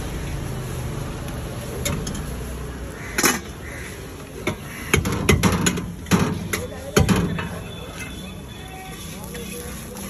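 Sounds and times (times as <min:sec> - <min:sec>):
low traffic rumble: 0:00.0 - 0:10.0.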